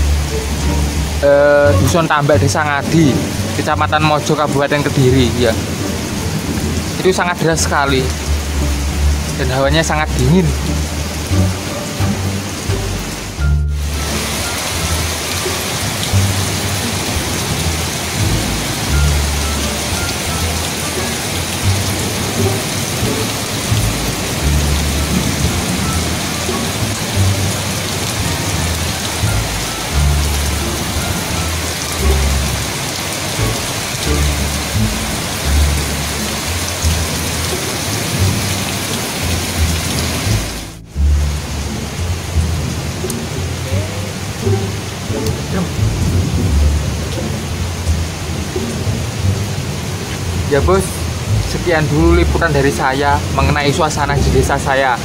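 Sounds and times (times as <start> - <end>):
heavy rain on leaves and roofs: 0.0 - 55.0
low rumbles: 0.0 - 55.0.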